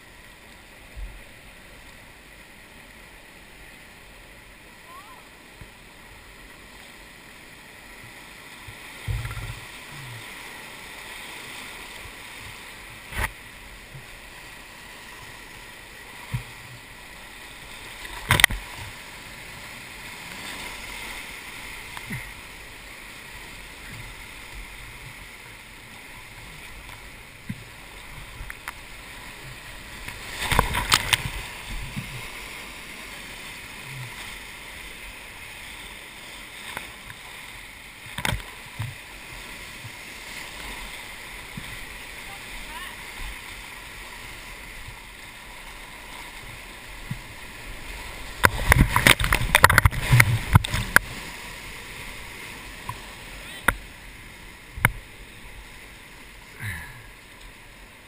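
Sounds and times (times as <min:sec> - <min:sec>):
water splashes: 0:00.0 - 0:58.0
whitewater rapids rushing: 0:00.0 - 0:58.0.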